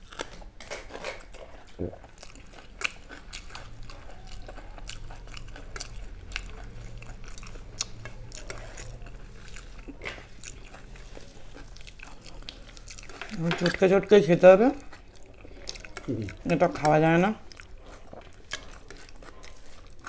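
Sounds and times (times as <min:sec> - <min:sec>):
chewing crisp fried food: 0:00.0 - 0:20.0
low steady hum: 0:00.0 - 0:20.0.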